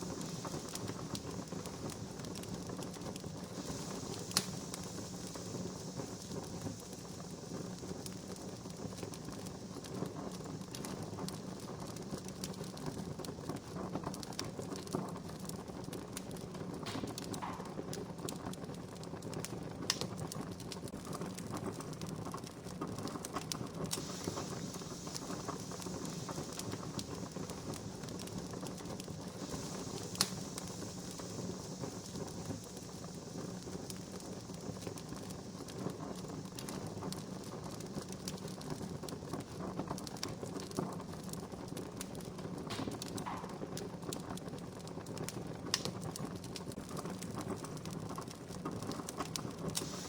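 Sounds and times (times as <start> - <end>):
soft hiss of fire: 0.0 - 50.0
wood fire crackling: 0.0 - 50.0.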